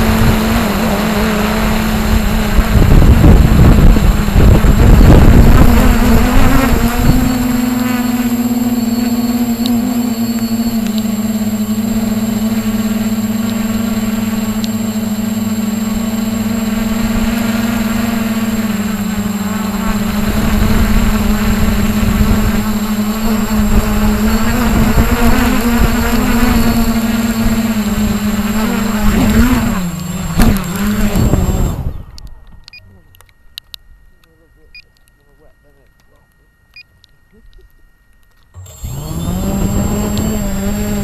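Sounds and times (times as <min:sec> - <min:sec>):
model helicopter buzzing whine: 0:00.0 - 0:36.8, 0:37.4 - 0:41.0.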